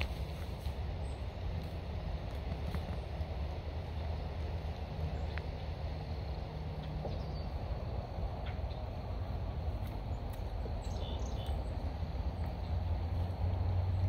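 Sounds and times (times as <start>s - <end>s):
low woodland rumble: 0.0s - 14.0s.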